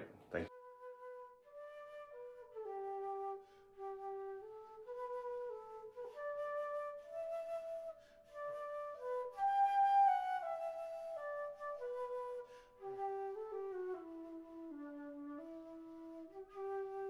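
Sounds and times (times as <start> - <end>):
slow flute-like melody: 0.5 - 17.0.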